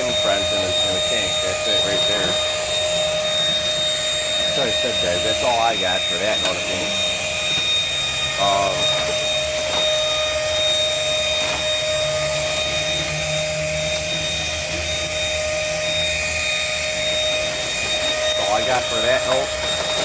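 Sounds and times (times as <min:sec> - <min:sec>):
stick vacuum running: 0:00.0 - 0:20.0.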